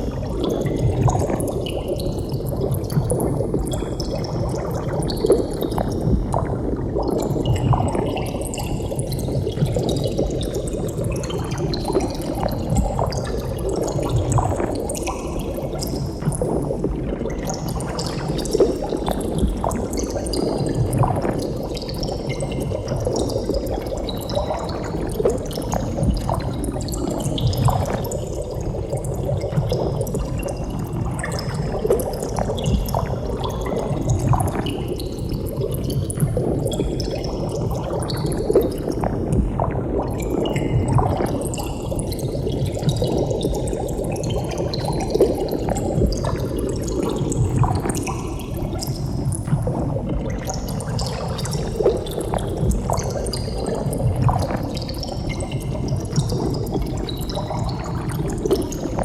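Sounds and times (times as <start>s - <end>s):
water bubbling and gurgling: 0.0s - 59.0s.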